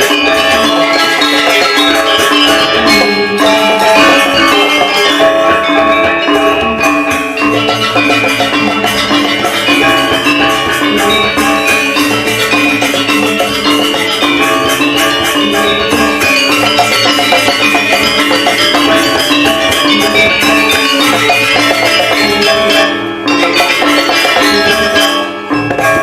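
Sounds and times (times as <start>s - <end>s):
drums: 0.0s - 26.0s
gamelan metallophones ringing: 0.0s - 26.0s.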